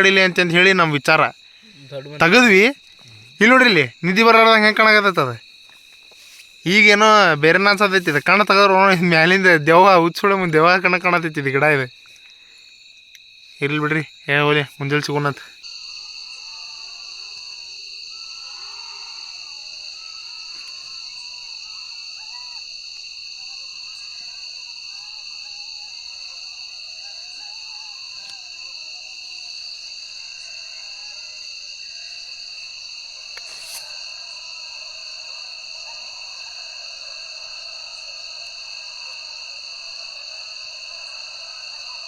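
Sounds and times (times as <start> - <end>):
faint wavering calls: 0.0 - 12.2, 13.5 - 42.0
crickets chirping: 0.0 - 42.0.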